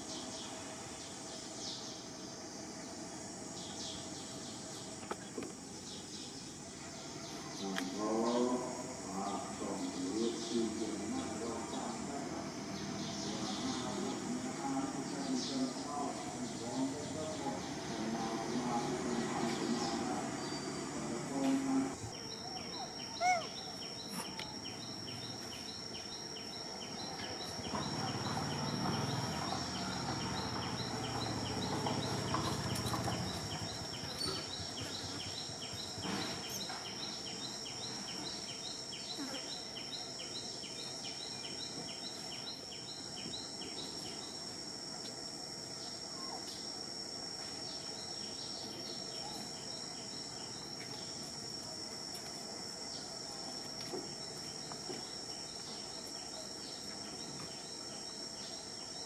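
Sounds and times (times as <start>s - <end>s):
high-pitched insect drone: 0.0s - 59.0s
insect chirping: 0.0s - 59.0s.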